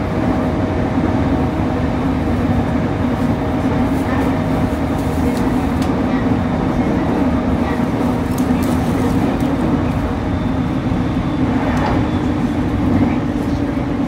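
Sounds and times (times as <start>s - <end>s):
constant hum: 0.0s - 14.0s
train rumbling on rails: 0.0s - 14.0s.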